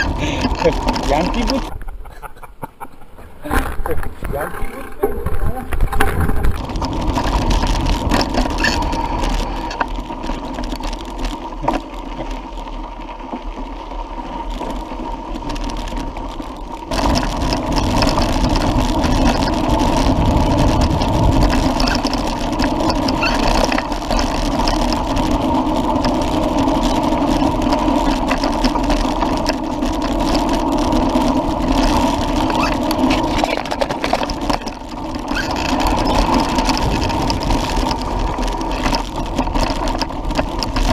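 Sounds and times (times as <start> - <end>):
bike tyres rumbling on dirt: 0.0 - 40.9.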